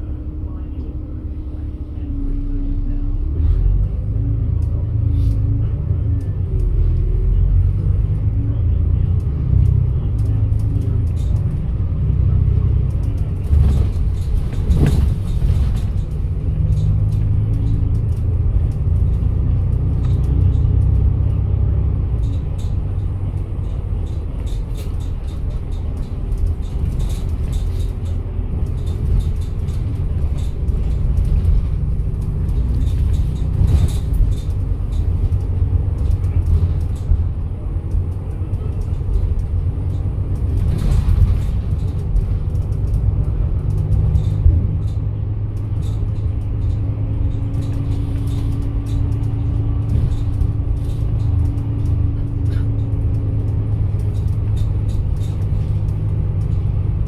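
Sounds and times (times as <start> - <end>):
bus engine and road rumble: 0.0 - 57.0
light rattles and clicks: 3.4 - 57.0.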